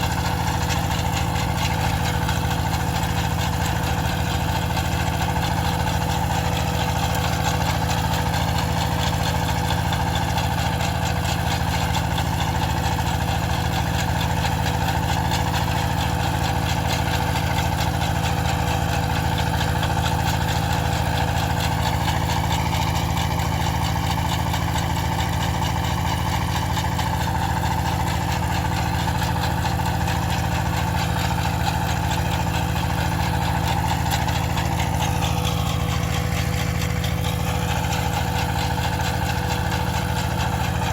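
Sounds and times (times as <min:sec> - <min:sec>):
farm machinery engine running: 0:00.0 - 0:40.9.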